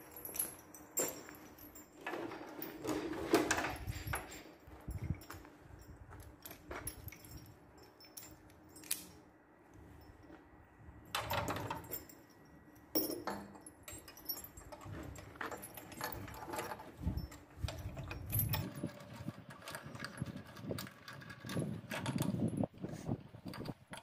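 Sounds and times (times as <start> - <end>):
chain clinking and rattling: 0.0 - 24.0.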